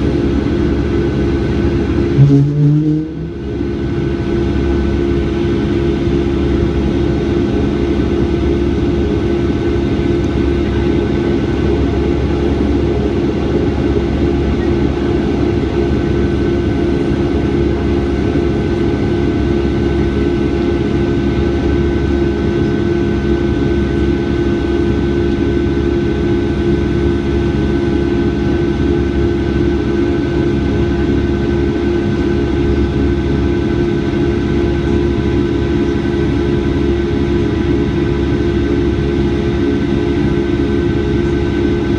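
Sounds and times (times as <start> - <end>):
jet engines rumbling in cabin: 0.0 - 41.9.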